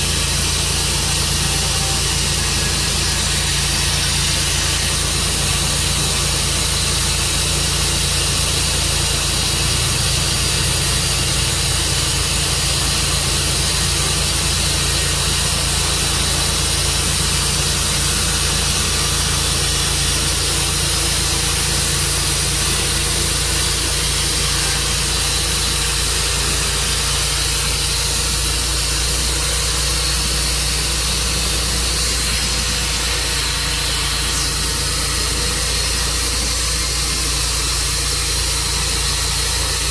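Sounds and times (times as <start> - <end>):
sawmill engine drone: 0.0 - 39.9
sawmill hiss: 0.0 - 39.9.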